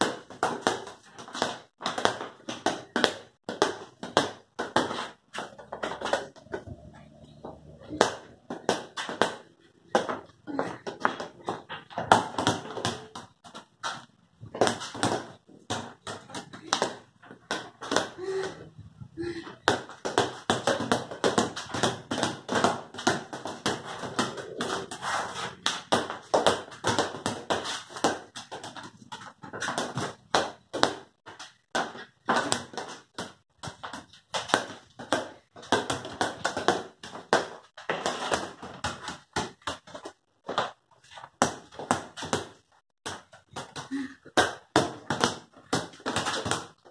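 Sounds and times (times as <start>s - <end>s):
rubber ball bouncing on concrete: 0.0s - 46.9s.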